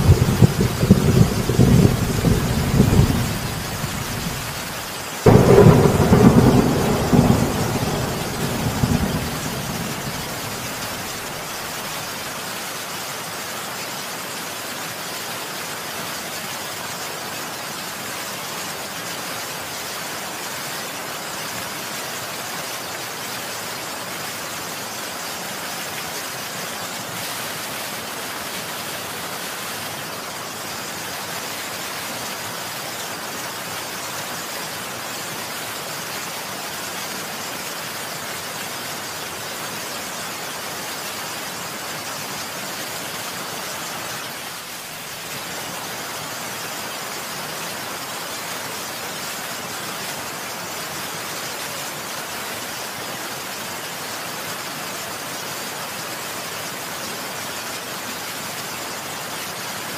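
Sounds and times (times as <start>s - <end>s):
heavy rainfall: 0.0s - 59.9s.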